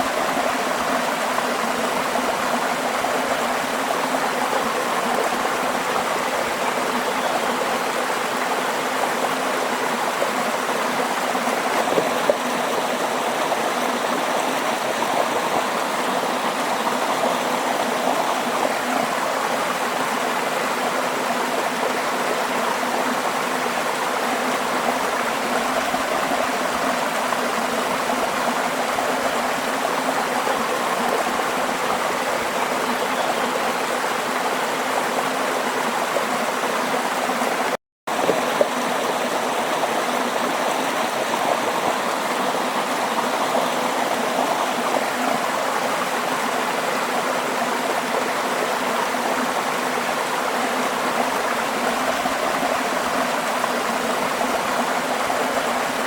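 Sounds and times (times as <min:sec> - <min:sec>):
stream water rushing and babbling: 0:00.0 - 0:56.0.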